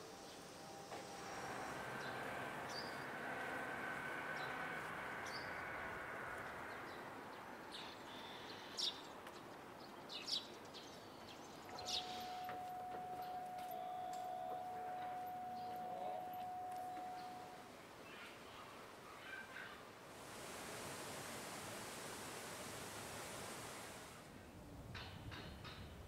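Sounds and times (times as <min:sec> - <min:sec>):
faint steady hum: 0:00.0 - 0:08.7, 0:11.7 - 0:24.9
street background noise: 0:00.0 - 0:23.0.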